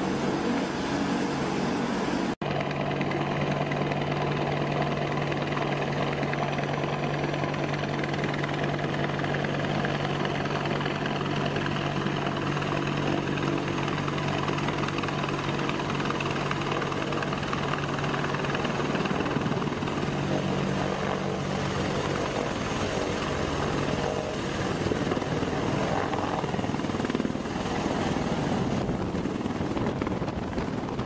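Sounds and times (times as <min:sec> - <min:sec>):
helicopter hovering: 0:00.0 - 0:31.0.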